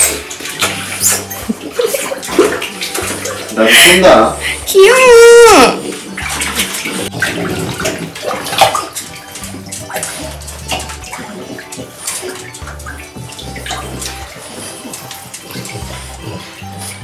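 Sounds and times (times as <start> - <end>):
bath water sloshing and splashing: 0.0 - 17.0.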